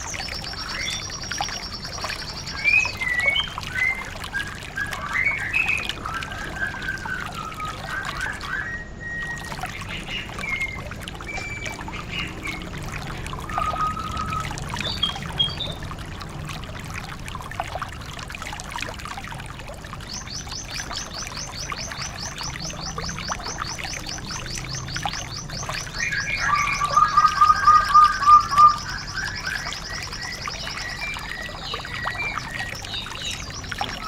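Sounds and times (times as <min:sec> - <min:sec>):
bird chirping and trilling: 0:00.0 - 0:15.8, 0:20.0 - 0:34.0
trickling water: 0:00.0 - 0:34.0.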